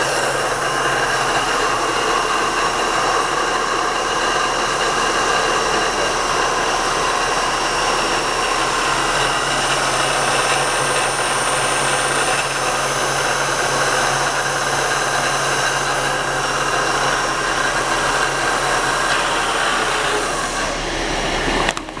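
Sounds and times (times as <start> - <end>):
high steady whining tones: 0.0 - 22.0
machinery whirring: 0.0 - 22.0.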